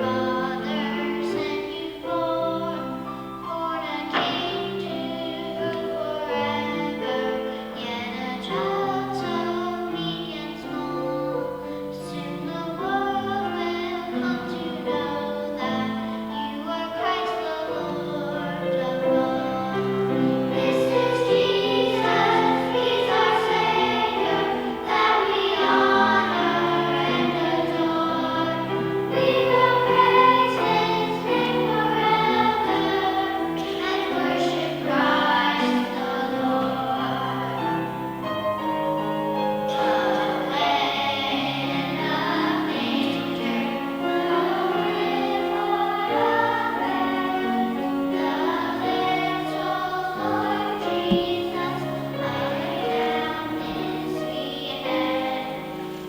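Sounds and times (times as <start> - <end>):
choir singing with accompaniment: 0.0 - 56.0.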